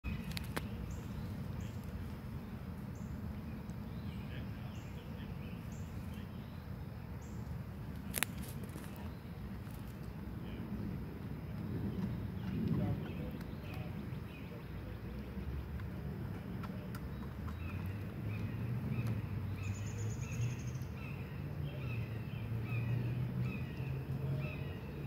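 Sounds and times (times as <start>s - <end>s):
wind buffeting microphone: 0.0s - 21.1s
steady low rumble: 0.0s - 25.0s.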